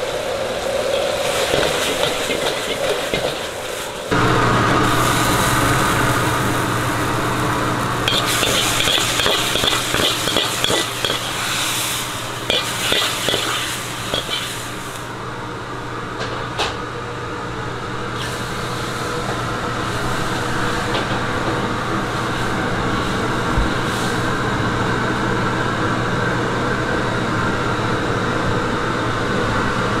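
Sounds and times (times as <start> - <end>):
kitchen machine droning: 0.0 - 30.0.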